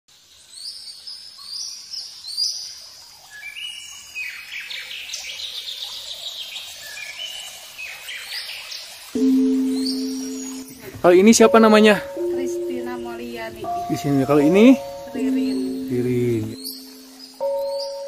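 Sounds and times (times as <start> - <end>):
songbirds chirping: 0.3 - 18.0.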